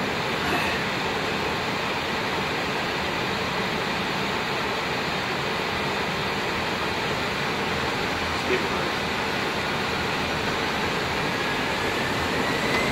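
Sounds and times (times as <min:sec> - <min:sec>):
low hum of idling engines: 0:00.0 - 0:12.9.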